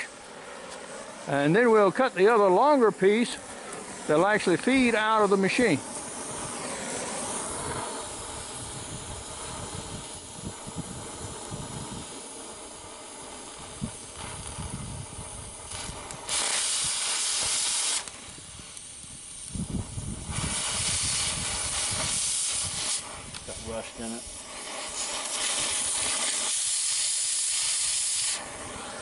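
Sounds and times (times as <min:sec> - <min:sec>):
cutting torch hissing: 0:00.0 - 0:29.0.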